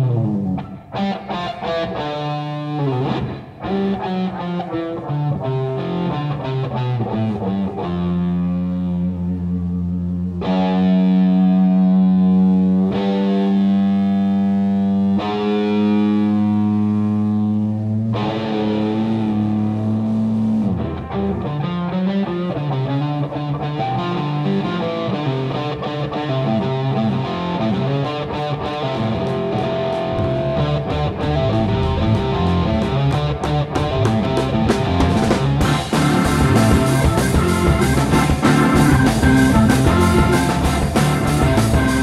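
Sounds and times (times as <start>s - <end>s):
blues-rock band playing: 0.0s - 42.0s
distorted electric guitar: 0.0s - 42.0s.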